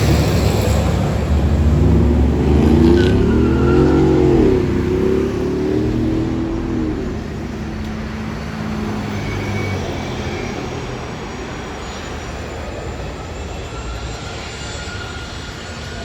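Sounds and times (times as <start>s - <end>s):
jet engine whine: 0.0s - 16.0s
jet engines rushing: 0.0s - 16.0s.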